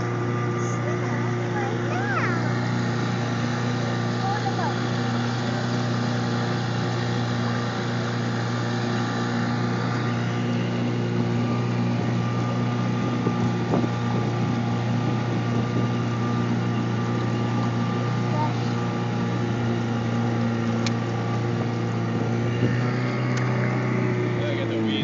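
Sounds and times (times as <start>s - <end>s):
boat motor droning: 0.0s - 25.0s
water splashing along hull: 0.0s - 25.0s.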